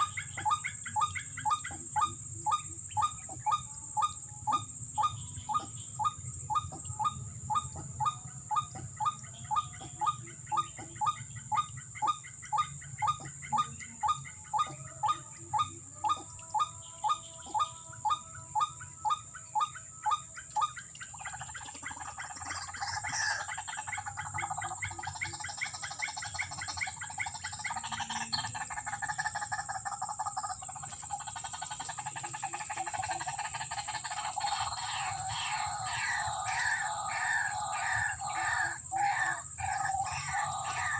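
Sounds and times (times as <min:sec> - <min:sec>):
bird croaking call: 0:00.0 - 0:40.9
high insect drone: 0:00.0 - 0:40.9
rough chattering bird chorus: 0:00.0 - 0:40.9.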